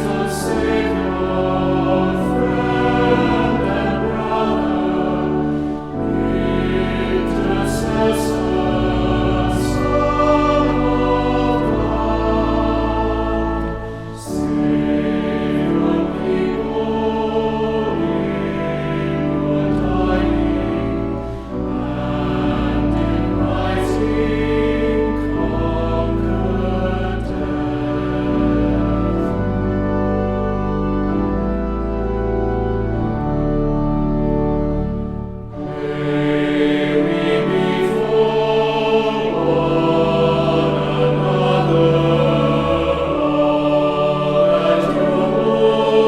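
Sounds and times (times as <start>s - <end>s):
choir singing held chords: 0.0s - 33.1s, 33.9s - 46.0s.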